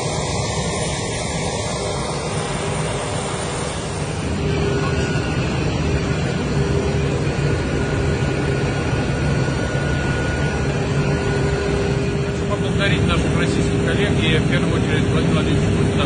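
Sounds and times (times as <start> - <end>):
aircraft engines droning: 0.0 - 16.0
steady hums: 0.0 - 16.0.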